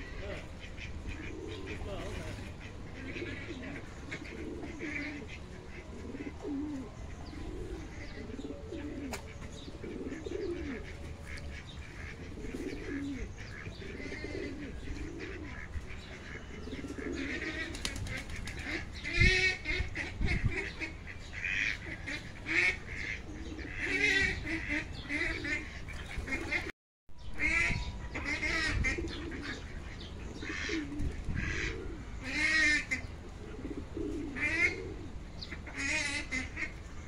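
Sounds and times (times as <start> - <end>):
ducks quacking loudly: 0.0 - 6.5, 9.8 - 26.7, 27.4 - 33.1, 34.0 - 36.8
pigeons cooing: 0.0 - 26.7, 27.4 - 37.0.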